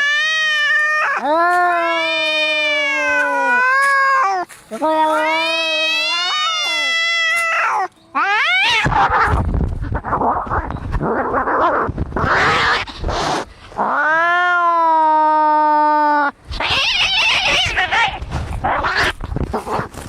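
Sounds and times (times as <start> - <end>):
cat yowling: 0.0 - 9.4, 11.2 - 12.9, 13.8 - 19.2
cats snarling and hissing: 0.0 - 20.0.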